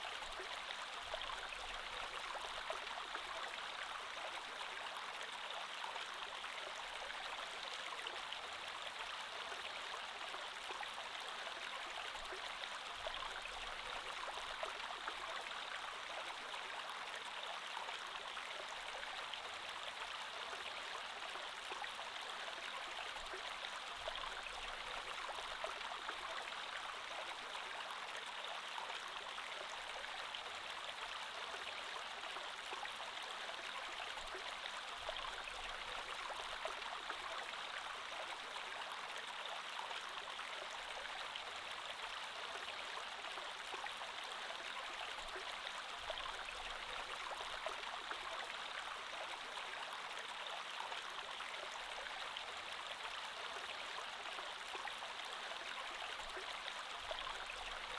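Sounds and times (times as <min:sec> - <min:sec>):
creek water flowing over rocks: 0:00.0 - 0:57.9.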